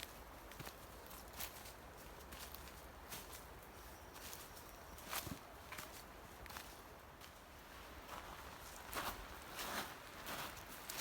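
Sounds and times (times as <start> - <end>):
soft footsteps on a path: 0.0 - 11.0.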